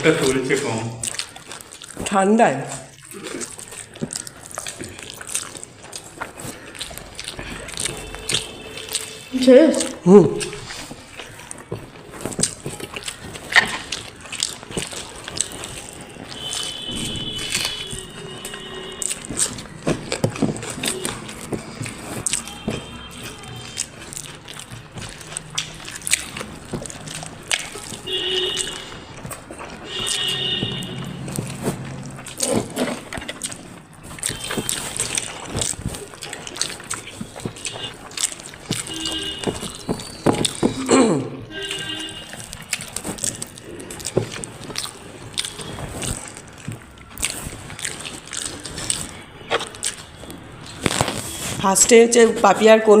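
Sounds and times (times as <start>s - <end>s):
wet chewing and crunching: 0.0s - 53.0s.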